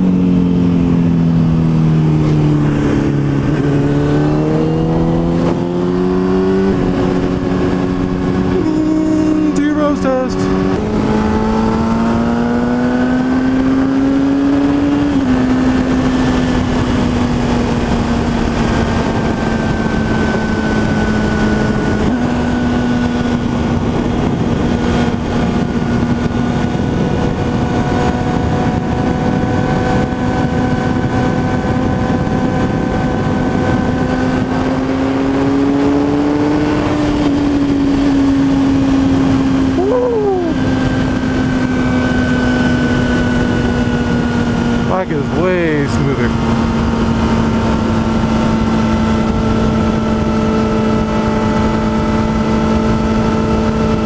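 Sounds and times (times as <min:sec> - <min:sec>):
motorcycle engine at road speed: 0:00.0 - 0:54.0
wind rush: 0:00.0 - 0:54.0.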